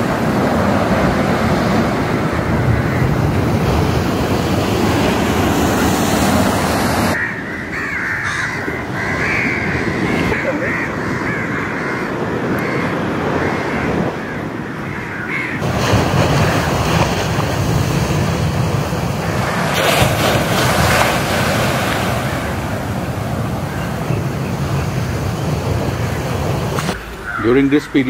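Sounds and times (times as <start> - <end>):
sea surf washing onto shore: 0.0 - 28.0
wind buffeting microphone: 0.0 - 28.0.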